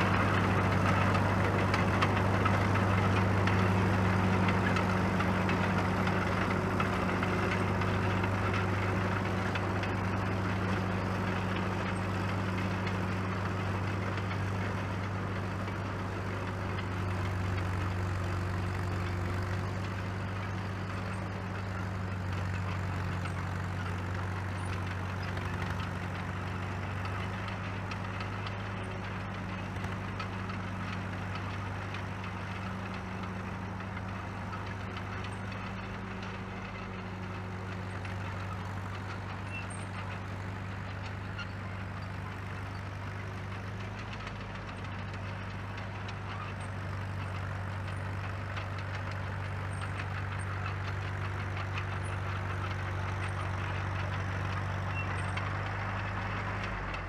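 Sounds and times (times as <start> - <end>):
crawler dozer diesel engine running: 0.0 - 57.0.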